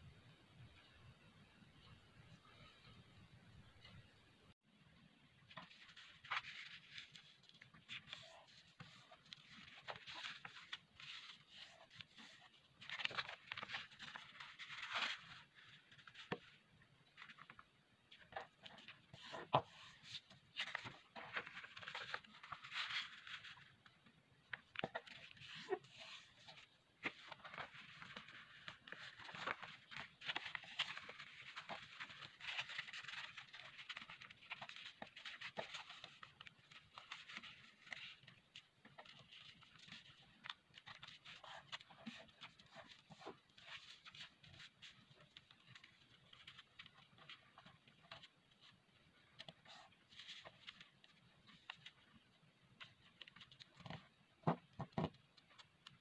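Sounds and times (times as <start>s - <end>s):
paper rustling and creasing: 5.4s - 56.0s.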